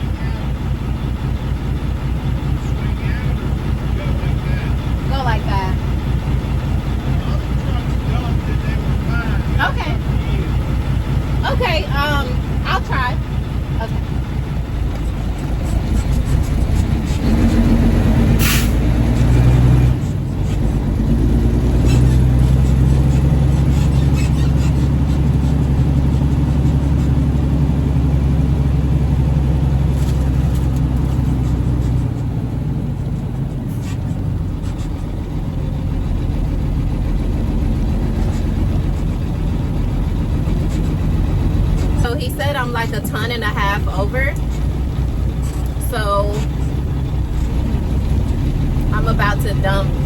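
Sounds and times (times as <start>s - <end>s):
diesel truck engine droning: 0.0s - 50.0s.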